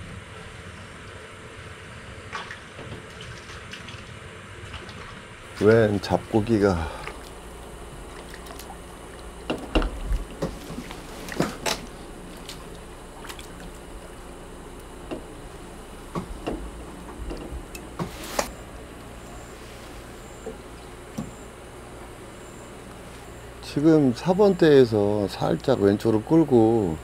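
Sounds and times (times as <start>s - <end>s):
faint steady background noise: 0.0s - 27.0s.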